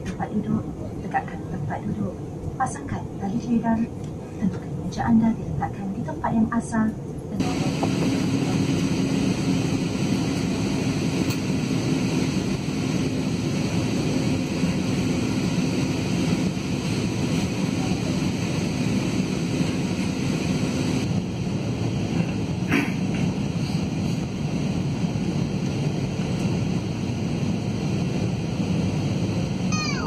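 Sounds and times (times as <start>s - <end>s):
jet engine and airflow rush: 0.0s - 30.0s
steady low hum: 0.0s - 30.0s.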